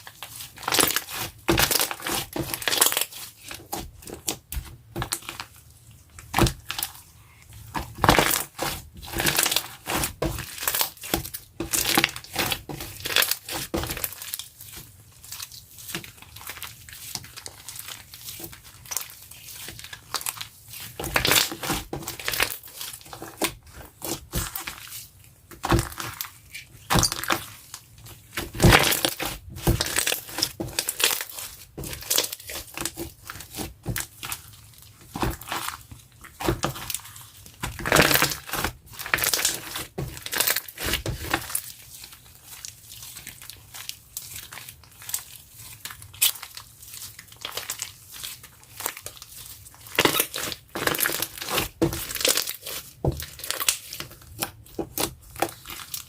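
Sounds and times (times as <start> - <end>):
crunchy slime crackling: 0.0 - 56.0.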